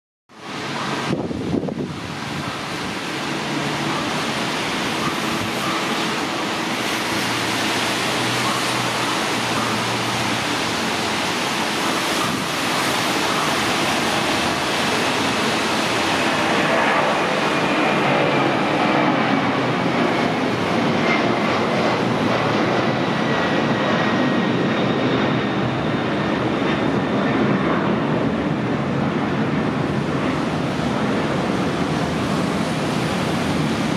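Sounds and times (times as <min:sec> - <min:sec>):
high engine whine: 0:00.3 - 0:33.9
jet engine roar: 0:00.3 - 0:33.9.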